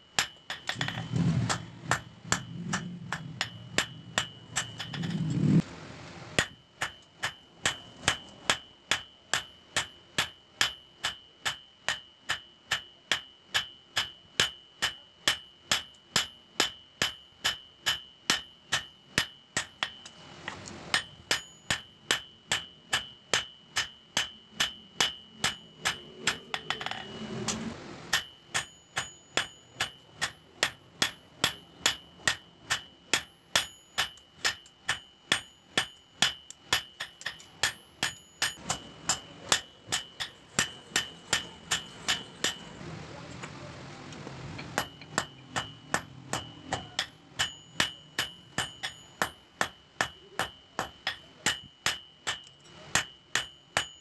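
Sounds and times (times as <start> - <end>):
hammer ringing on anvil: 0.1 - 5.2, 6.4 - 20.2, 20.9 - 42.8, 44.6 - 54.0.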